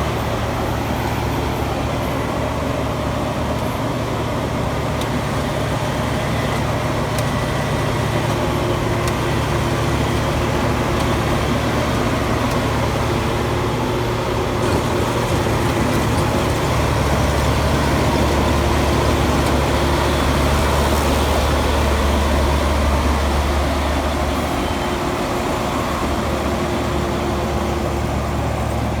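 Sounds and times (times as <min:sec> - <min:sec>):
combine harvester engine droning: 0:00.0 - 0:29.0.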